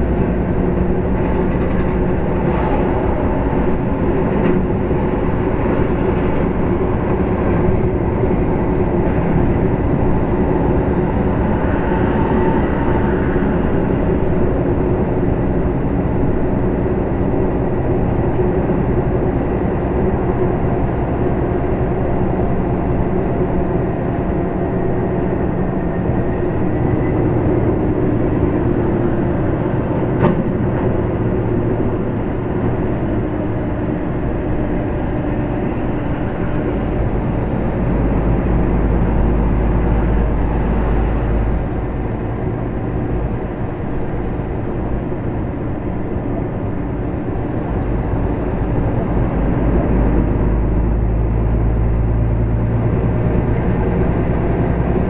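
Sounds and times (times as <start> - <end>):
diesel engine droning: 0.0 - 55.0
tyre and road noise: 0.0 - 55.0.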